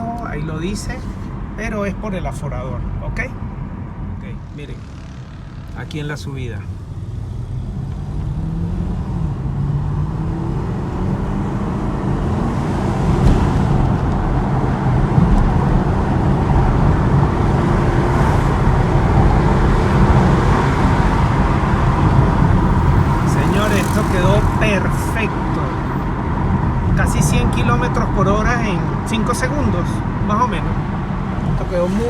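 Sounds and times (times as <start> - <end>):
road and wind noise: 0.0 - 32.0
car engine accelerating: 4.2 - 32.0.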